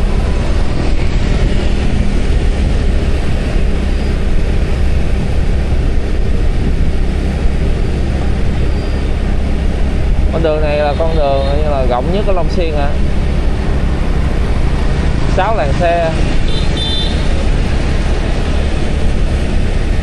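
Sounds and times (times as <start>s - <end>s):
motorbike engine: 0.0s - 20.0s
road noise: 0.0s - 20.0s
wind rumbling on microphone: 0.0s - 20.0s.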